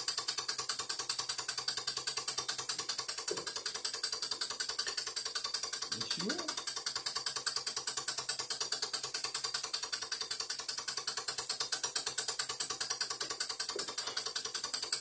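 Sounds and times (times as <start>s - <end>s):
model steam engine ticking: 0.0s - 15.0s.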